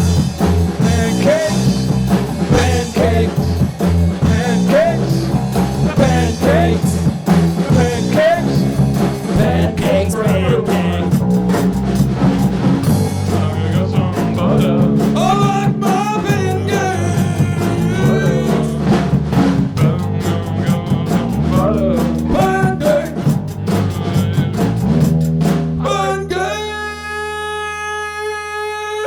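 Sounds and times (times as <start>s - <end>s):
rock band jamming blues: 0.0s - 28.5s.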